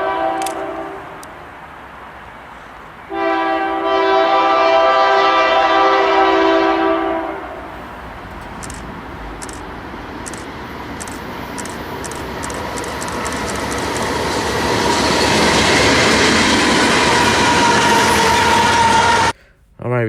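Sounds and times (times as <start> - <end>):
freight train passing: 0.0 - 19.4.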